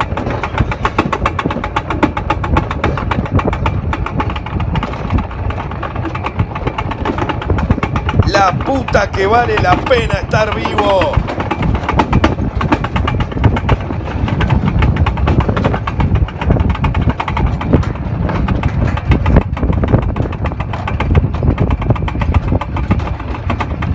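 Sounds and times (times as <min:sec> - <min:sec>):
coaster sled rumbling on rails: 0:00.0 - 0:23.9
wheels rattling on track: 0:00.0 - 0:23.9.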